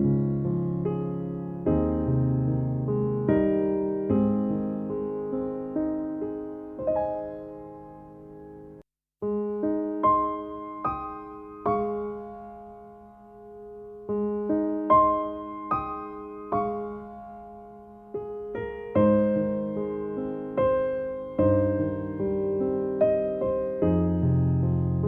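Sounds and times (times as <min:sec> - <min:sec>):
calm piano music: 0:00.0 - 0:25.0.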